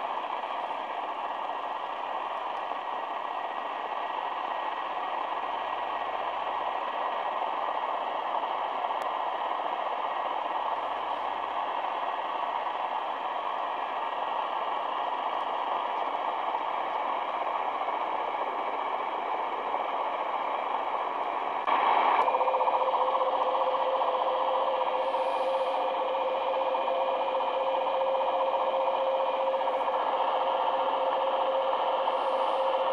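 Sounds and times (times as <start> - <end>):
faint steady radio tones: 0.0 - 32.9.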